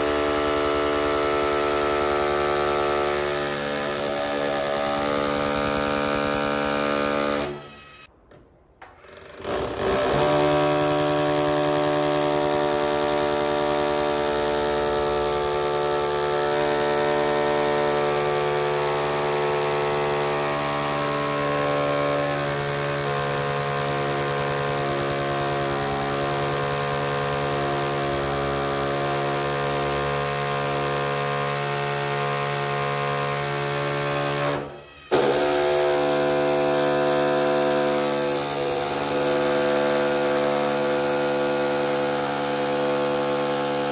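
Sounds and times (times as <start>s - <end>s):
drill boring into masonry wall: 0.0s - 8.1s, 9.0s - 43.9s.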